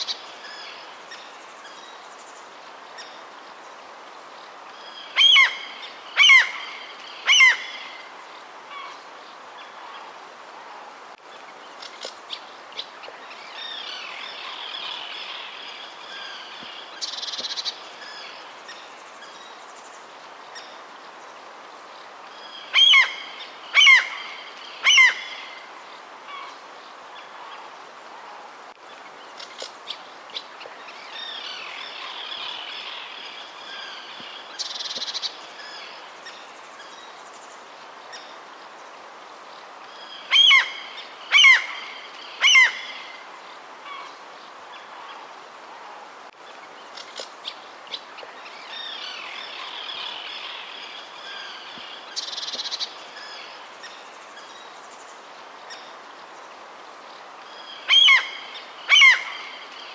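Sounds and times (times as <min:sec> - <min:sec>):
background hiss: 0:00.0 - 0:59.9.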